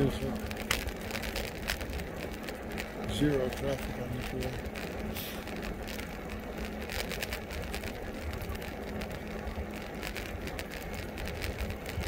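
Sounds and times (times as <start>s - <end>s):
electric motor hum: 0.0s - 12.0s
wind buffeting microphone: 0.0s - 12.0s.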